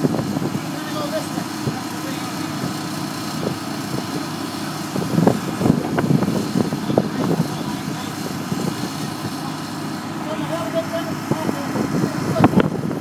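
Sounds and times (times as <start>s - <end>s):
heavy equipment engine running: 0.0s - 13.0s.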